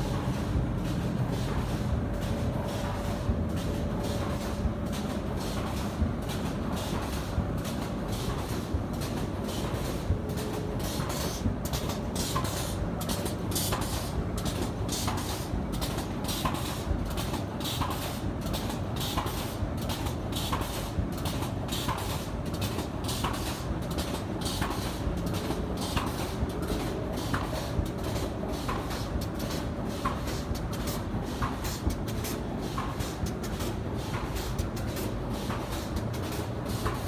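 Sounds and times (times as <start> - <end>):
machine clattering with rapid clicks: 0.0 - 37.0.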